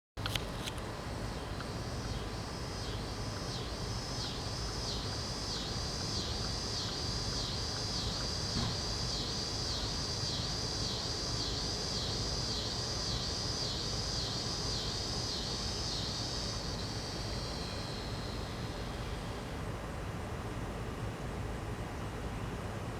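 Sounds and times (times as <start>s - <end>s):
cicada buzzing: 0.2s - 19.6s.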